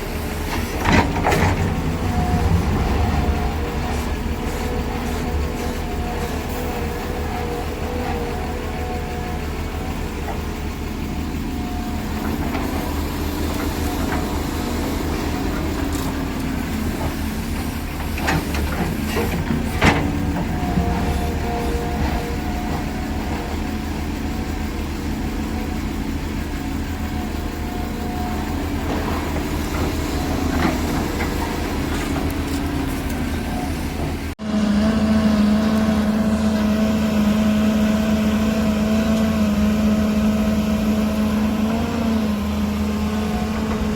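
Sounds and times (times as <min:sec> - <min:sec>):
heavy diesel machinery engines: 0:00.0 - 0:43.9.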